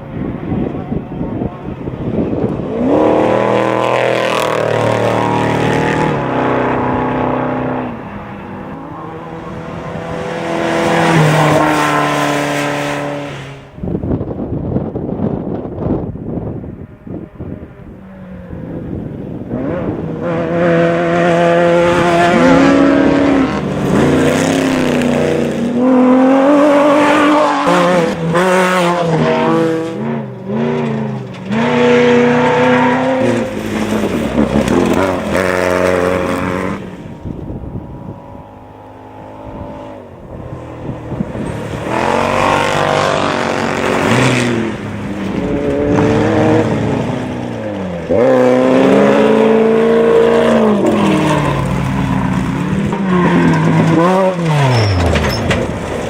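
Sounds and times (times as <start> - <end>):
race vehicle engines revving: 0.0 - 56.0.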